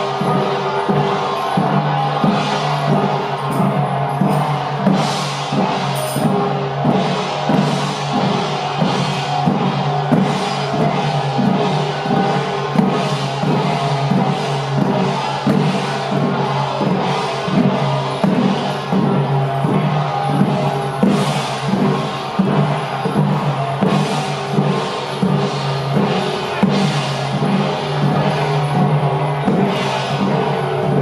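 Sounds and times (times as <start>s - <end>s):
hand drums and cymbals beating: 0.0s - 31.0s.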